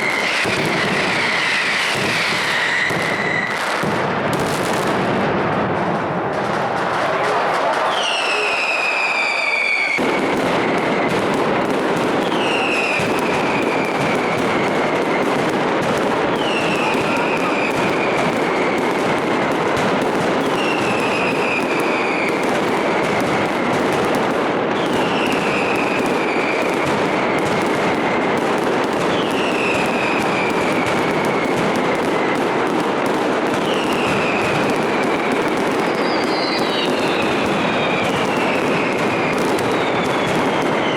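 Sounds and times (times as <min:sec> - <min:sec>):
falling firework whistle: 0:00.0 - 0:03.9, 0:07.6 - 0:19.5, 0:20.4 - 0:24.1, 0:24.8 - 0:28.1, 0:28.7 - 0:40.9
firecrackers crackling: 0:00.0 - 0:40.9.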